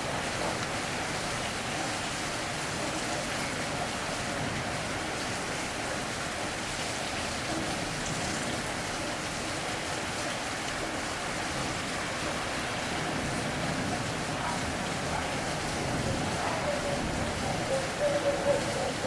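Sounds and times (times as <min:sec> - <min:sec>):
rain falling steadily: 0:00.0 - 0:19.0.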